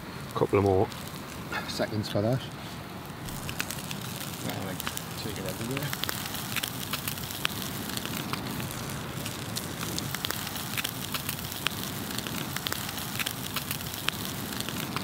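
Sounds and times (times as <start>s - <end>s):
campfire crackling and popping: 0.0s - 15.0s
fire hiss: 0.0s - 15.0s.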